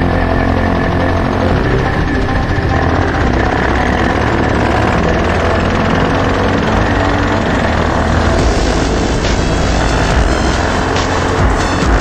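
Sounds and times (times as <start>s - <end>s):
motorcycle engines rumbling: 0.0s - 12.0s
road and wind noise: 0.0s - 12.0s.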